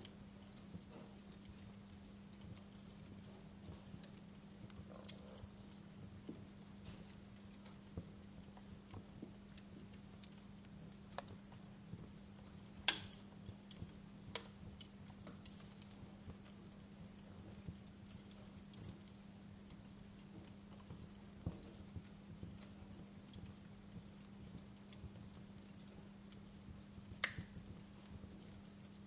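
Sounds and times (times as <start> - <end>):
faint steady hum: 0.0 - 29.0
wood fire crackling: 0.0 - 29.0.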